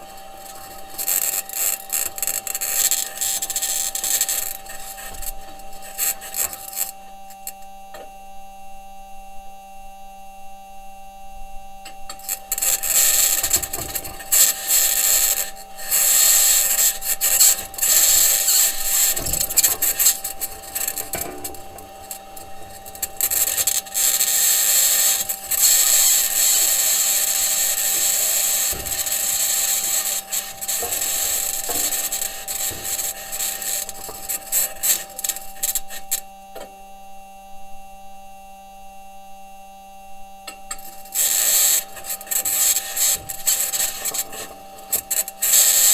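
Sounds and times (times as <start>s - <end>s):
rover wheels scraping over ground: 0.0s - 7.5s, 11.9s - 36.3s, 40.7s - 45.9s
steady hum: 0.0s - 45.9s.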